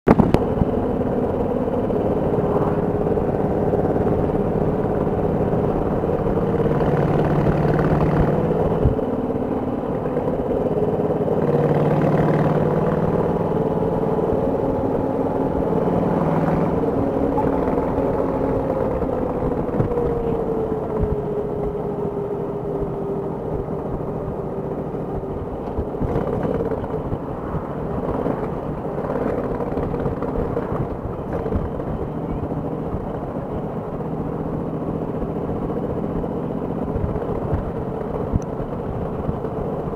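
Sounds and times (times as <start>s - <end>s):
wind and road noise: 0.0s - 39.9s
motorcycle engine running: 0.1s - 39.9s.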